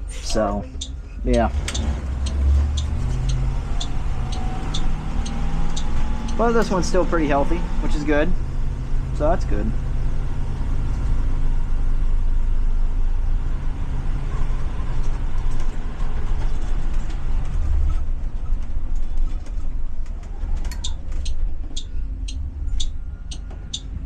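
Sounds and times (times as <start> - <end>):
bus engine droning: 0.0 - 24.0.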